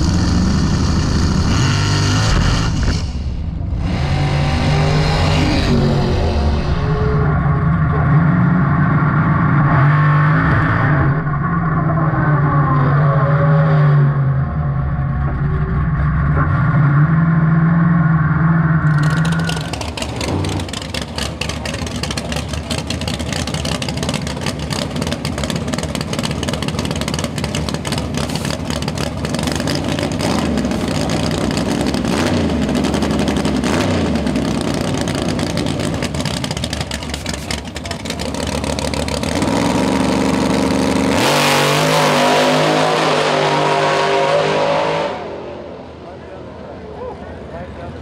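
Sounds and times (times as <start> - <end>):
drag car engine revving: 0.0 - 46.2.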